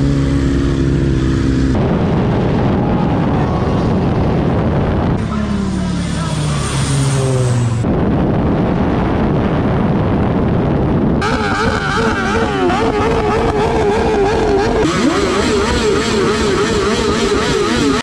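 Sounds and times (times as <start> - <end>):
loud vehicle engine: 0.0 - 18.0.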